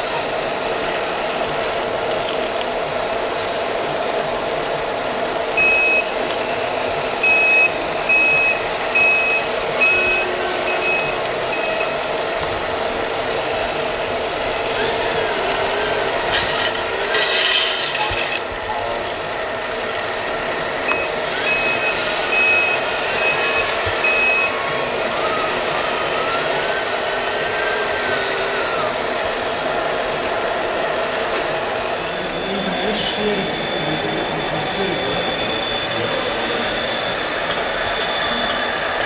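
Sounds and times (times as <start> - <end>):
electric motors whining: 0.0 - 39.0
rotating drum mechanical whirr: 0.0 - 39.0.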